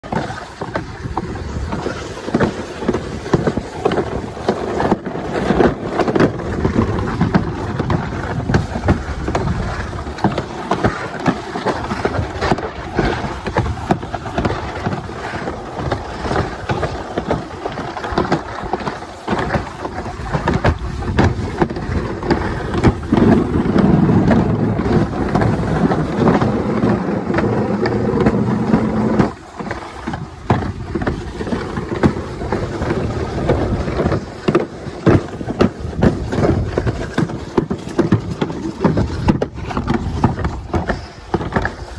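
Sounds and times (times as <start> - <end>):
sled rumbling and rattling on track: 0.0 - 41.9
wind on microphone: 0.0 - 41.9.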